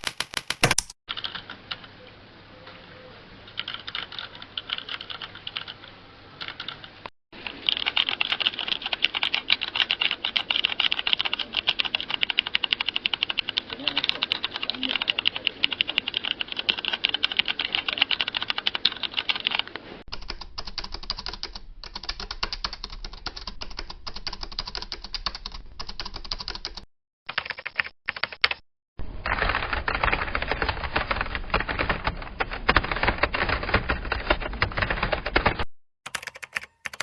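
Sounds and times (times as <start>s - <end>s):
rapid keyboard typing: 0.0s - 2.0s, 3.5s - 28.6s, 29.2s - 37.0s.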